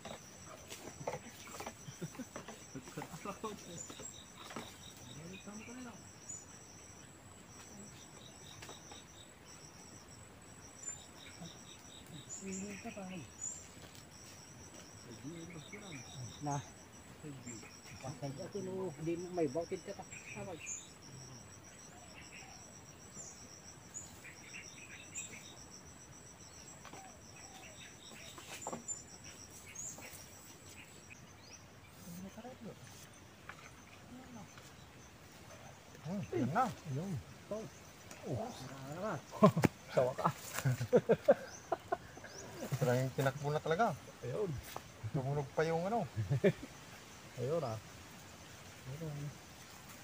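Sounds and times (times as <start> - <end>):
insects chirping rapidly: 0.0 - 50.0.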